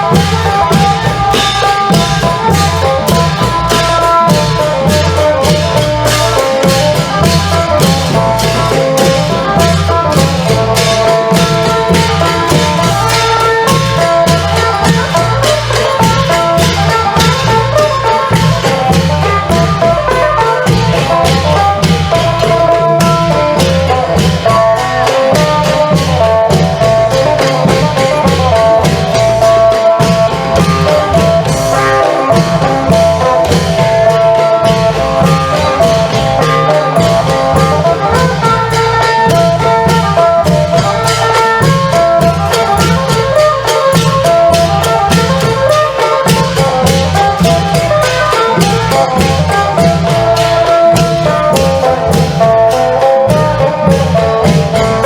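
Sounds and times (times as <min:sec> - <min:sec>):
high percussion strokes: 0:00.0 - 0:55.0
long drums beating: 0:00.0 - 0:55.0.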